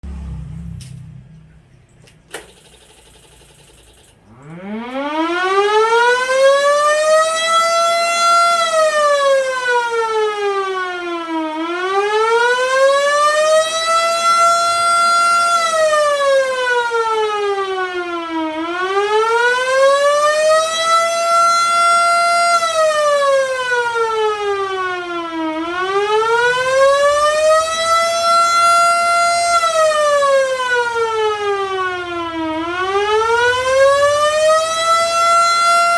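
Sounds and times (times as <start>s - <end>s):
emergency siren wailing: 0.0s - 1.5s, 4.2s - 35.9s.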